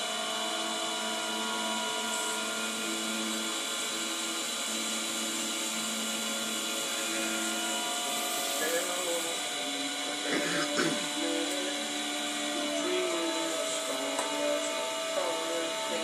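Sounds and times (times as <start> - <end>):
potter's wheel motor whine: 0.0 - 16.0.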